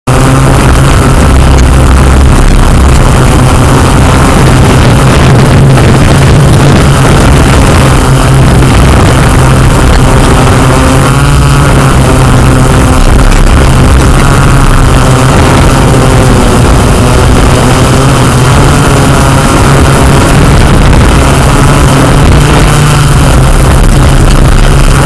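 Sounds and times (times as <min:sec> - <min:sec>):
drone motors humming: 0:00.0 - 0:25.0.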